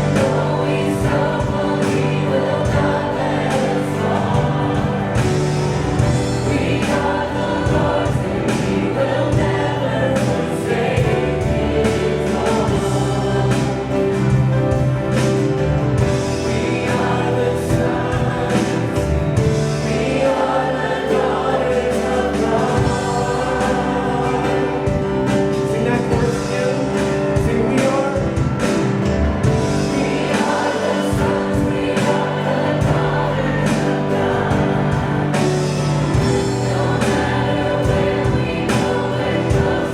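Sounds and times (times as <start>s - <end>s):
congregation singing: 0.0s - 39.9s
musical accompaniment: 0.0s - 39.9s.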